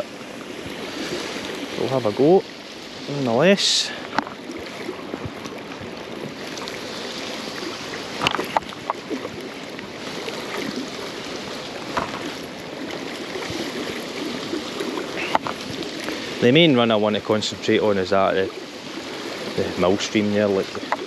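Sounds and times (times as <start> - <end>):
river water running: 0.0 - 21.0.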